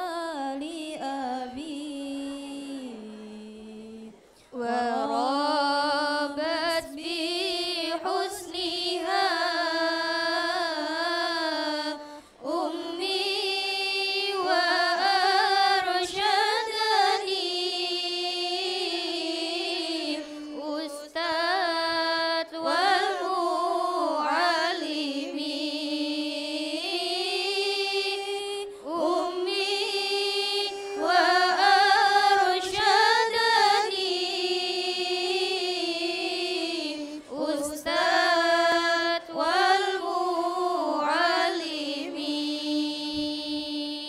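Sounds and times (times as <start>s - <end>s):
women singing in unison: 0.0s - 44.0s.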